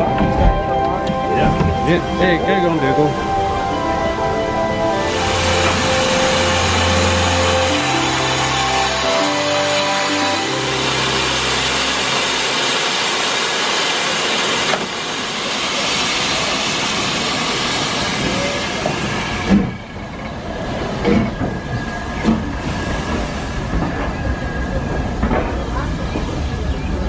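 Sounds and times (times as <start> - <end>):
steam locomotive hissing: 1.7 - 27.0.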